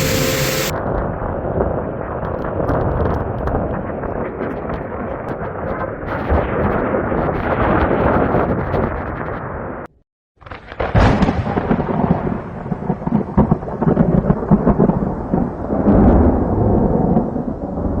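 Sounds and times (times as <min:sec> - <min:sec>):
rumbling thunder: 0:00.0 - 0:09.7, 0:10.4 - 0:18.0
rain: 0:00.0 - 0:09.8, 0:10.4 - 0:18.0.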